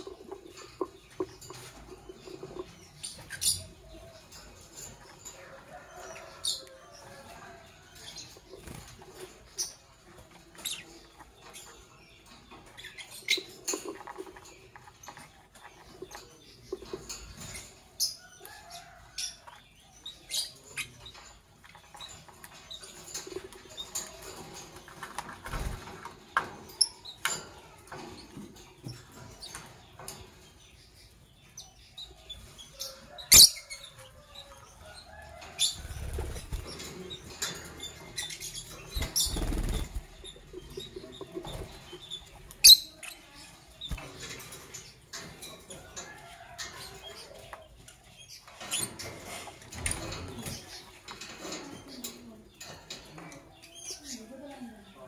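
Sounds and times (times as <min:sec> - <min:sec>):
bird chirping: 0:00.0 - 0:45.6.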